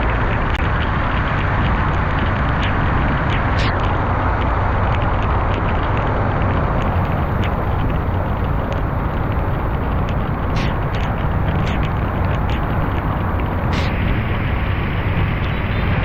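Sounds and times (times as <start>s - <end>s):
light ticks: 0.0s - 14.2s
car driving rumble: 0.0s - 16.0s.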